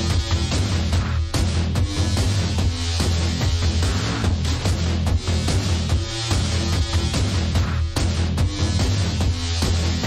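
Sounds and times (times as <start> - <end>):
driving drum beat: 0.0 - 10.0
electronic dance music: 0.0 - 10.0
heavy bass line: 0.0 - 10.0.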